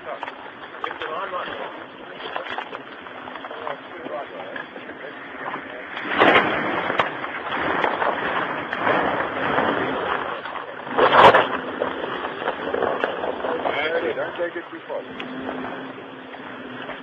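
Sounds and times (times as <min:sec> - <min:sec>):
off-road vehicle engine rumble: 0:00.0 - 0:17.0.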